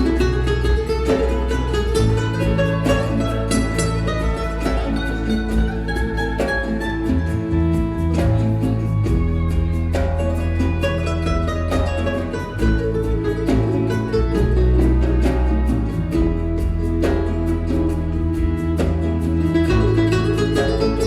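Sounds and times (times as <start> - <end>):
bass: 0.0 - 21.0
percussion rhythm: 0.0 - 21.0
plucked acoustic guitar: 0.0 - 21.0.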